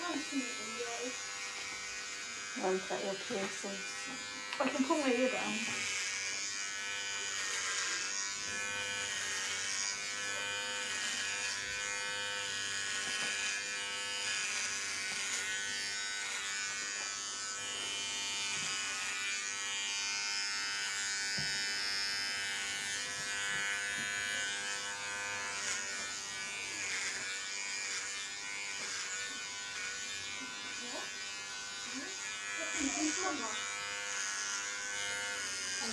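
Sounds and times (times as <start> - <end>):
electric hair clippers buzzing: 0.0 - 35.9.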